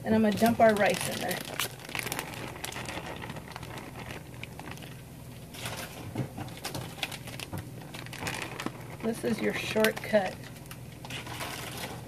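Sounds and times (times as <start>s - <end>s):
rice pattering into frying pan: 0.3s - 12.0s.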